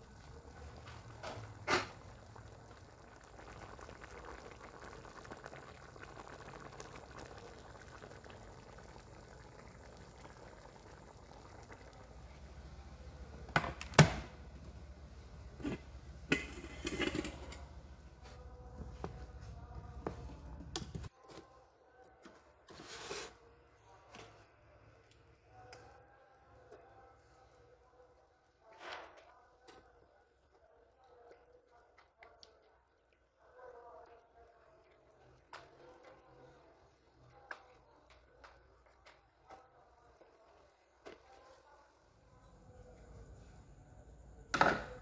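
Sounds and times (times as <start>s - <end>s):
liquid in a pot: 0.0s - 21.1s, 22.6s - 45.0s.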